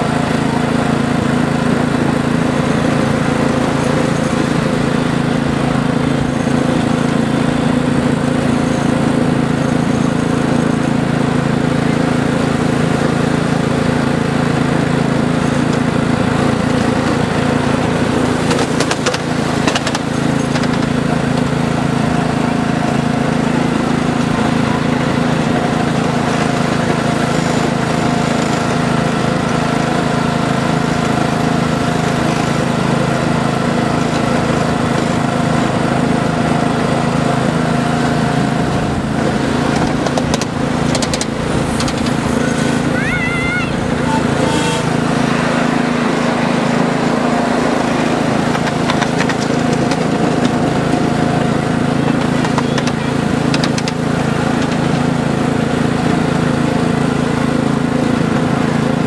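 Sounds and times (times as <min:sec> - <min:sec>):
miniature train engine drone: 0:00.0 - 0:59.0.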